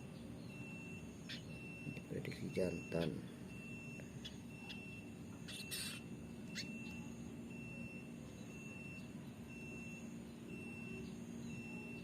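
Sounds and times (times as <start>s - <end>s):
faint insect chirping: 0.0s - 12.0s
low steady hum: 0.0s - 12.0s.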